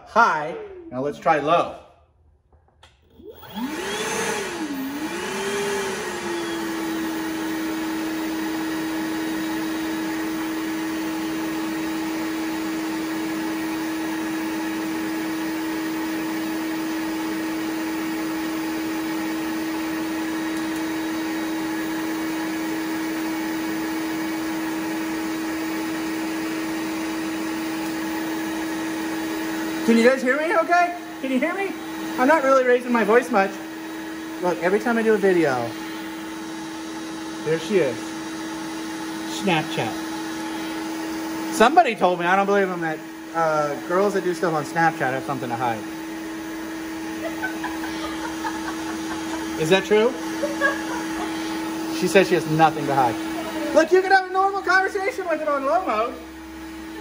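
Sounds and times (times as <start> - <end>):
vacuum motor humming: 2.8 - 57.0.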